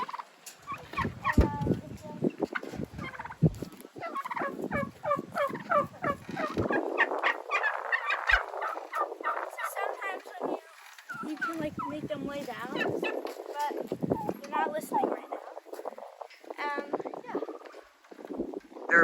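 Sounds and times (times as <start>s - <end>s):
turkeys gobbling: 0.0s - 1.6s, 2.2s - 16.6s.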